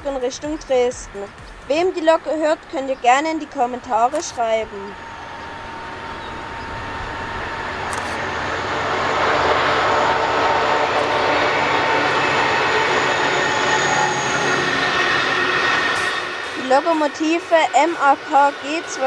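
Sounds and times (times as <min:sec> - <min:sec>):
diesel locomotive engine: 0:00.0 - 0:19.0.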